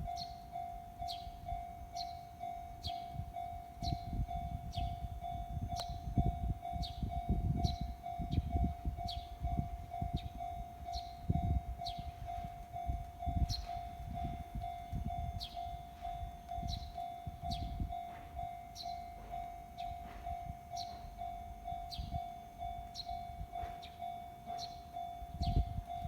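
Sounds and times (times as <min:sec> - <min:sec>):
level crossing warning bell ringing: 0:00.0 - 0:26.0
train rumbling past: 0:00.0 - 0:26.0.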